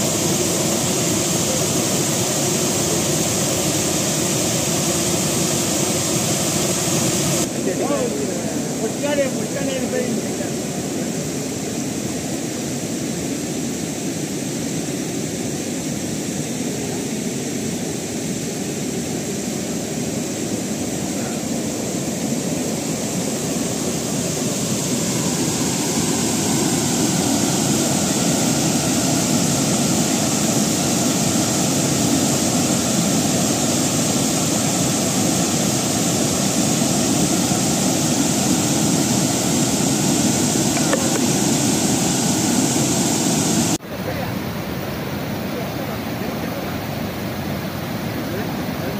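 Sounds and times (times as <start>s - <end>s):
floodwater rushing over weir: 0.0s - 48.9s.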